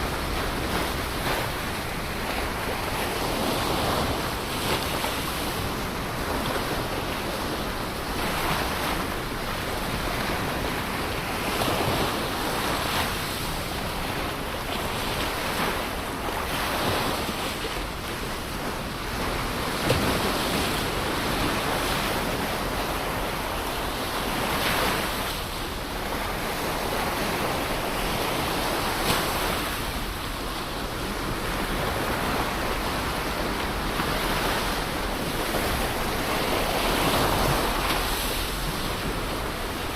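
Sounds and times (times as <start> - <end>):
ocean waves breaking: 0.0 - 39.9
wind: 0.0 - 39.9.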